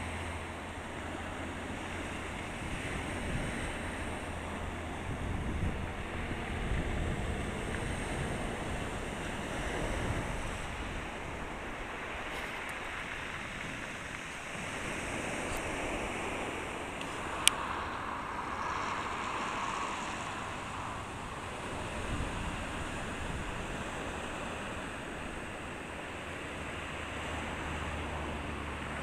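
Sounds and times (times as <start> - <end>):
surf washing onto pebble beach: 0.0 - 29.0
wind on microphone: 0.0 - 29.0.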